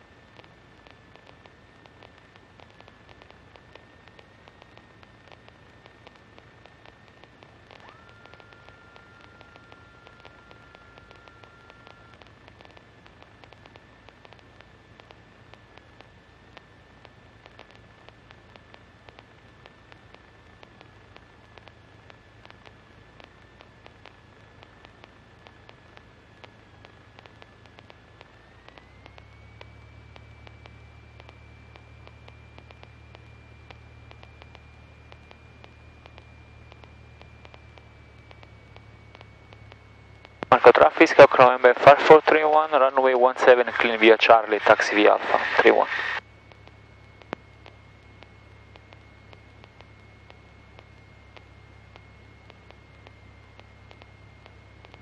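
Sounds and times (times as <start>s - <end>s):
high electrical whine: 0.0s - 55.0s
low hum: 0.0s - 55.0s
radio hiss and crackle: 0.0s - 55.0s.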